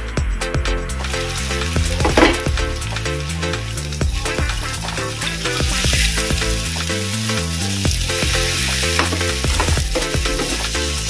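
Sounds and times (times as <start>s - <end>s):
food sizzling in a frying pan: 1.0s - 11.0s.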